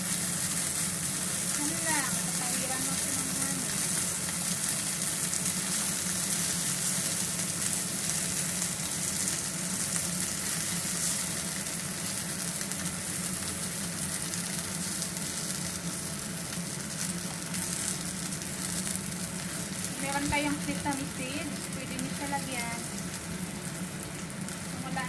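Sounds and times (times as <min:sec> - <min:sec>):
chicken wings sizzling in a pan: 0:00.0 - 0:25.0.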